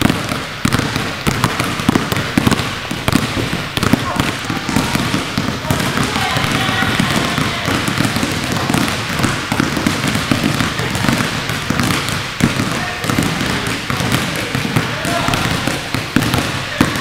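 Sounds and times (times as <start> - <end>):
basketballs bouncing on gym floor: 0.0 - 17.0.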